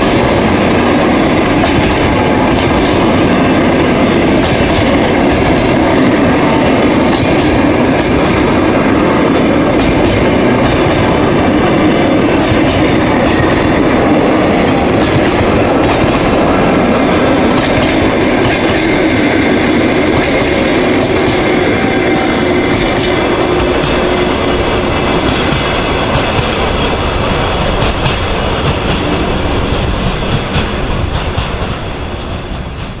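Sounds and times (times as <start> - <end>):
train wheels clickety-clack on rails: 0.0 - 33.0.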